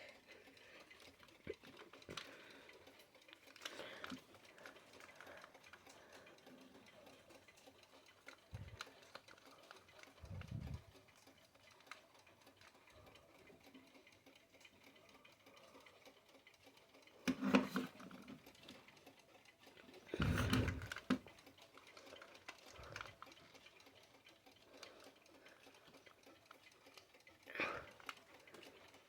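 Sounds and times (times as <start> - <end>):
alarm clock ticking faintly: 0.0 - 29.0.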